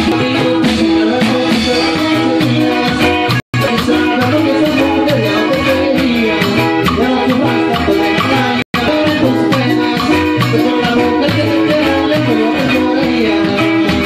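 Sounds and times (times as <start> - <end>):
live band playing latin music: 0.0 - 14.0
repeating bass line: 0.0 - 14.0.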